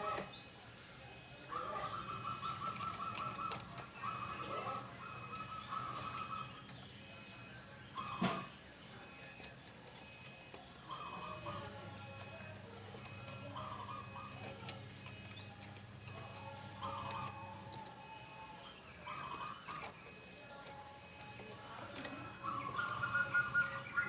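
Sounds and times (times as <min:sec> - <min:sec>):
dove cooing: 0:01.2 - 0:24.0.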